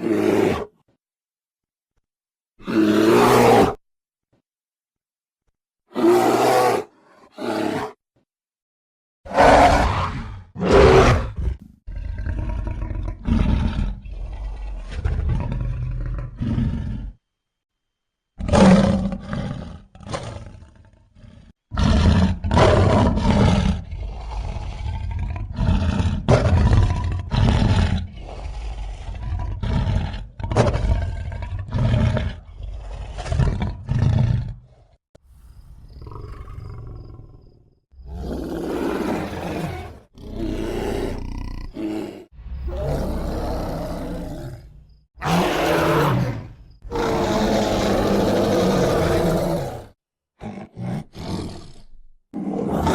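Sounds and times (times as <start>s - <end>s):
bear roaring and growling: 0.0s - 0.8s, 2.6s - 3.8s, 5.9s - 8.0s, 9.3s - 17.2s, 18.4s - 35.0s, 35.8s - 52.9s.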